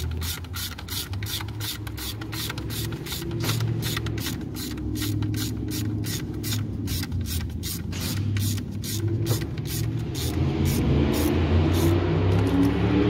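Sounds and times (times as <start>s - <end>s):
hand ratchet clicking: 0.0s - 12.8s.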